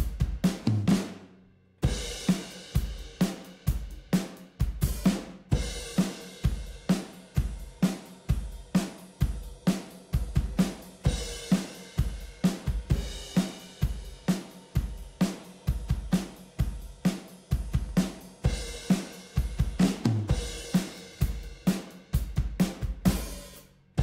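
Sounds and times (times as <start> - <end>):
drum kit beat: 0.0 - 1.2, 1.8 - 24.0.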